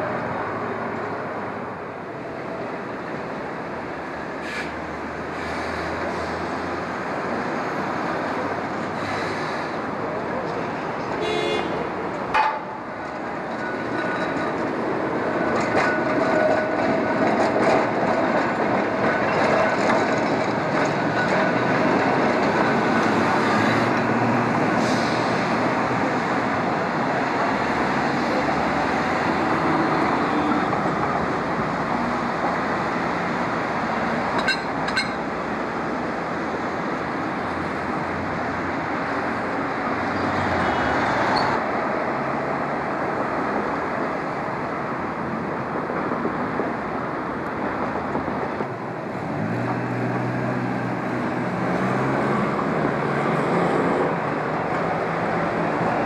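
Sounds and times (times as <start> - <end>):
streetcar wheels and motors rumbling: 0.0 - 56.0.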